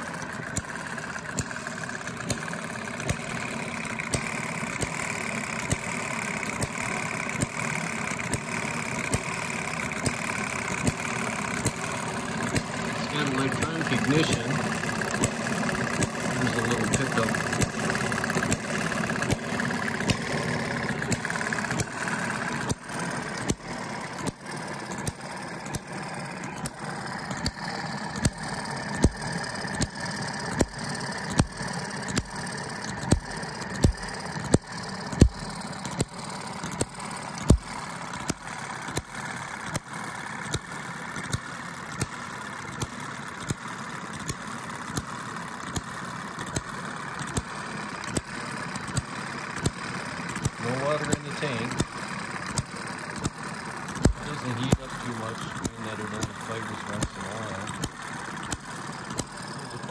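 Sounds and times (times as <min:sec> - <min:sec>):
mechanical whir: 0:00.0 - 0:59.9
model engine popping: 0:00.0 - 0:59.9.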